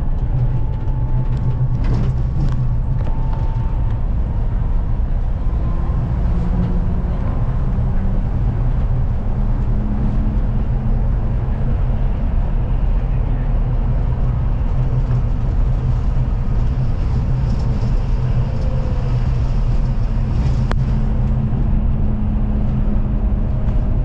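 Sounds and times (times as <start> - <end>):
faint whining tones: 0.0 - 24.0
train running with low rumble: 0.0 - 24.0.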